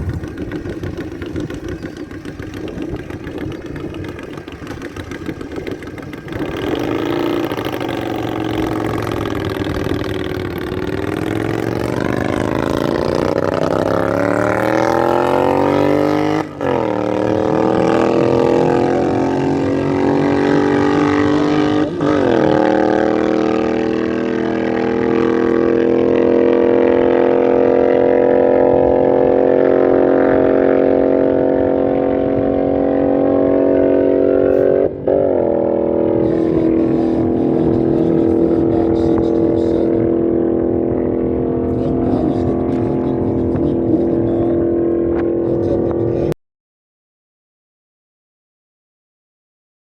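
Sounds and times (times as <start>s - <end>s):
motorcycle engine accelerating: 0.0s - 46.4s.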